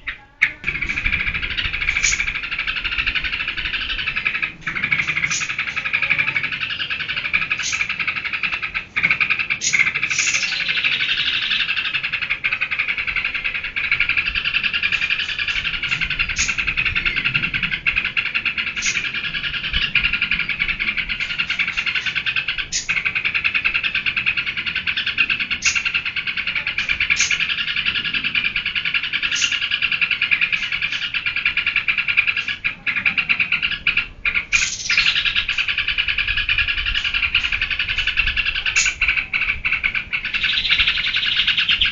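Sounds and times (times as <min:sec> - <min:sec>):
bulbul singing rapid chatter: 0:00.0 - 0:41.9.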